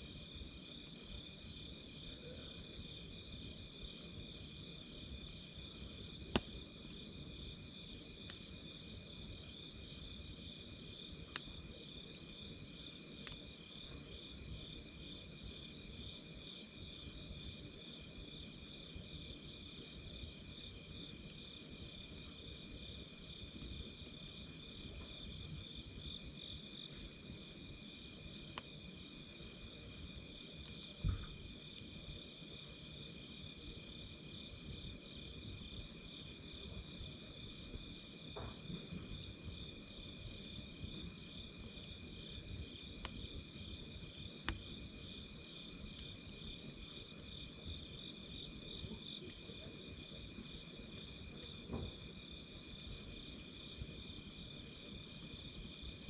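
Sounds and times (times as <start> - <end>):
campfire crackling: 0.0 - 56.0
fire popping: 4.0 - 15.0, 18.6 - 33.1, 34.8 - 56.0.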